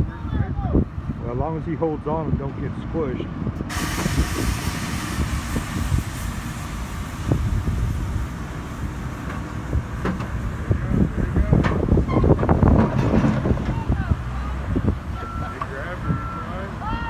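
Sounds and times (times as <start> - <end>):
diesel engines running: 0.0 - 17.0
wind rumbling on microphone: 0.0 - 17.0.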